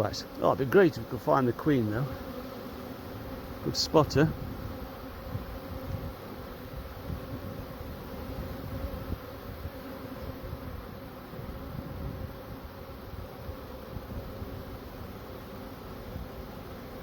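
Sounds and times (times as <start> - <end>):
bee swarm buzzing: 0.0 - 17.0.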